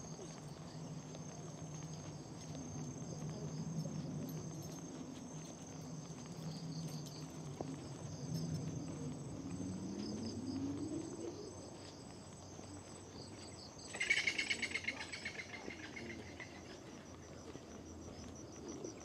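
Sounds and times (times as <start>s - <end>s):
insects chirring: 0.0s - 19.0s
rapidly pulsing insect call: 0.0s - 19.0s.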